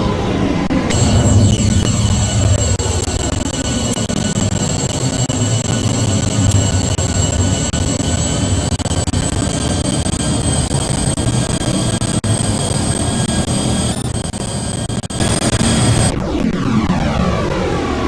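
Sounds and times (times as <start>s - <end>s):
jet engines rumbling with whine: 0.8s - 18.0s.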